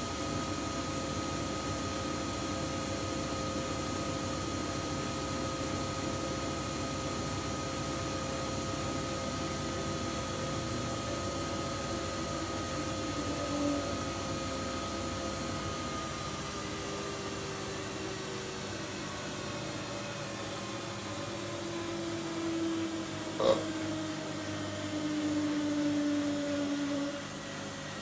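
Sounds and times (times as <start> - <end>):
washing machine motor whine: 0.0 - 28.0.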